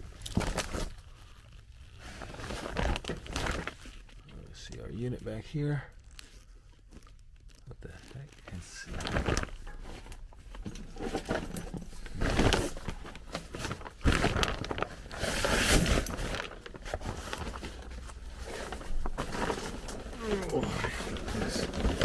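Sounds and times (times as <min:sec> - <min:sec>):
rustling and scraping in crawl space: 0:00.0 - 0:22.0.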